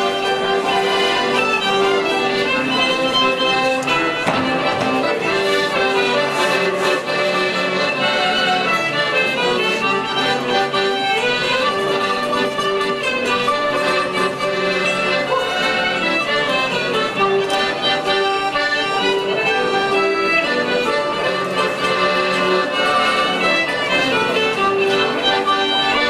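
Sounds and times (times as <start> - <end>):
folk dance tune on fiddles and accordion: 0.0 - 26.0.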